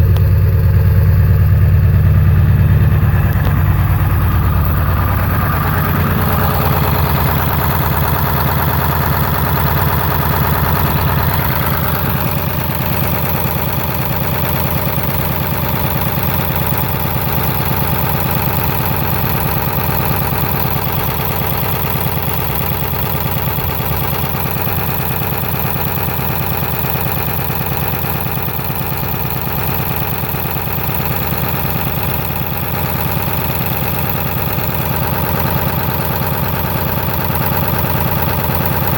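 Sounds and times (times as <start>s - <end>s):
diesel engine idling roughly: 0.0s - 38.9s.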